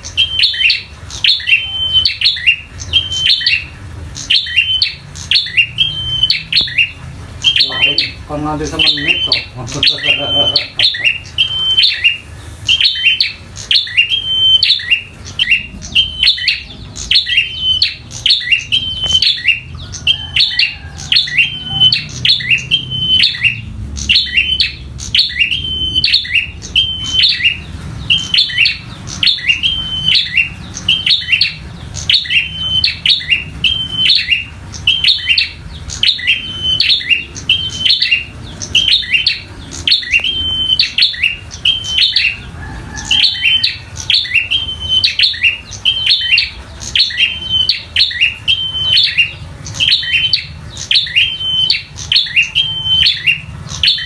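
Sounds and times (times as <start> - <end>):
bird sharp repeated call: 0.0 - 54.0.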